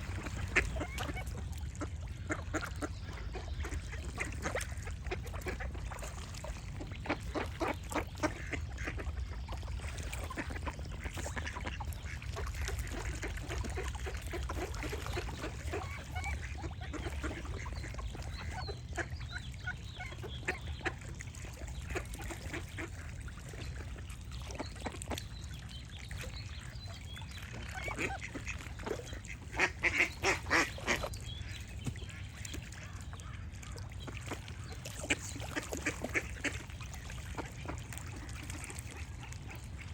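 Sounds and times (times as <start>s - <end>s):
ducks quacking: 0.0s - 25.3s, 26.6s - 39.9s.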